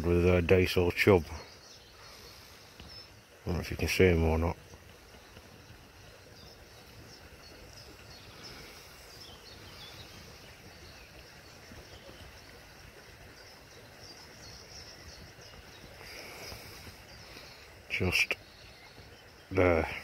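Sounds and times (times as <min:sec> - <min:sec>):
distant birds chirping: 0:00.0 - 0:20.0
low uneven rumble: 0:00.0 - 0:20.0.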